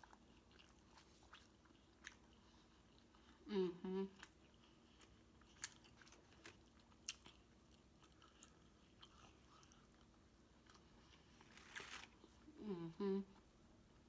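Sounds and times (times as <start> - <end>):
person chewing food: 0.0 - 3.4, 4.2 - 12.4.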